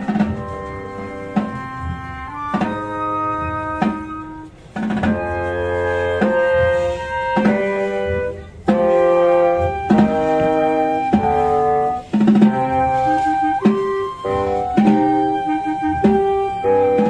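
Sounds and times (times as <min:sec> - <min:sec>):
snare drum strokes: 0:00.0 - 0:17.0
woodwind chords: 0:00.0 - 0:17.0.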